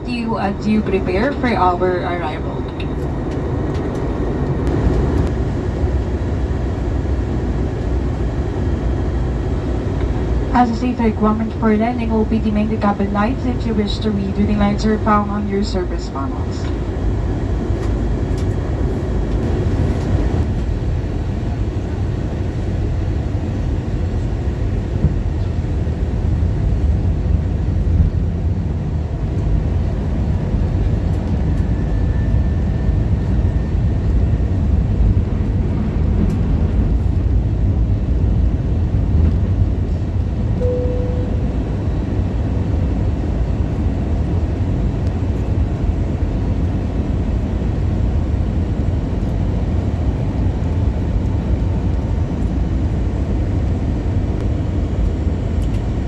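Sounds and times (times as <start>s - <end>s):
air rushing along fuselage: 0.0s - 56.0s
airliner engines droning: 0.0s - 56.0s.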